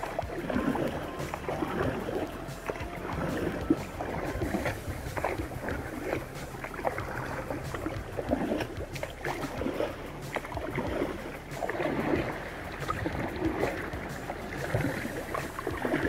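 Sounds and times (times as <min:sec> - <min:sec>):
paddle strokes splashing: 0:00.0 - 0:16.0
water lapping against hull: 0:00.0 - 0:16.0.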